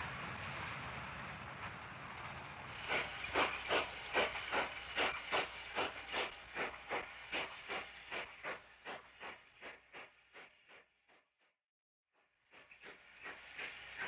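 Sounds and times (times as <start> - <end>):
steam locomotive exhaust chuffing: 0.0 - 11.2, 12.4 - 14.0.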